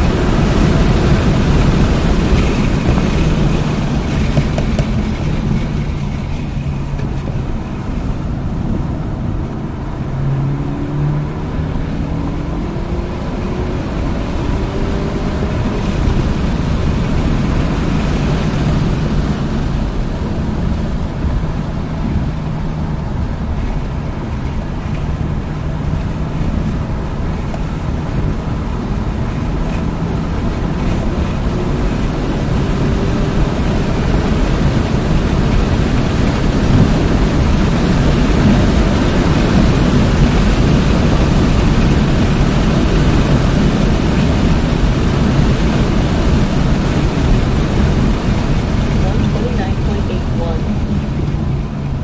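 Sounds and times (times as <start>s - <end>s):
car engine driven hard: 0.0s - 52.0s
wind and road noise: 0.0s - 52.0s.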